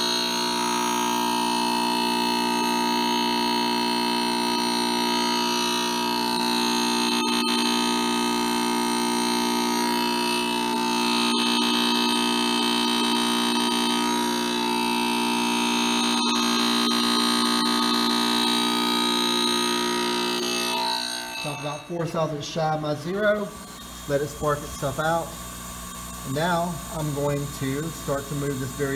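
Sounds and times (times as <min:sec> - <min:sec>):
grinding wheel humming and whining: 0:00.0 - 0:28.9.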